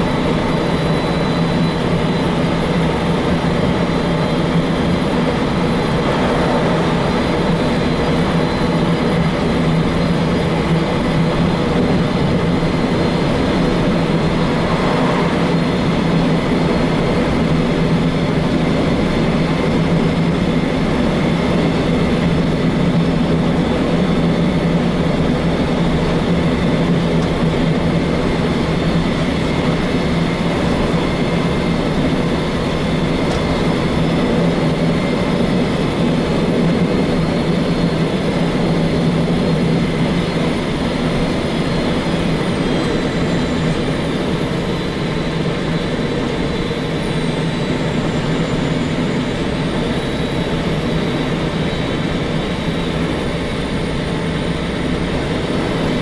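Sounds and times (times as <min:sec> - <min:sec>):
road noise: 0:00.0 - 0:56.0
truck diesel engine droning: 0:00.0 - 0:56.0.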